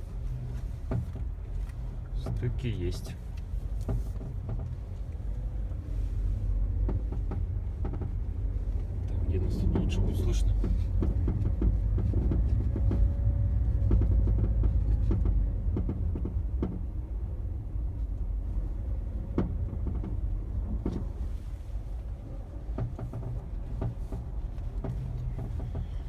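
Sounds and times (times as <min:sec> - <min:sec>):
car engine low rumble: 0:00.0 - 0:26.0.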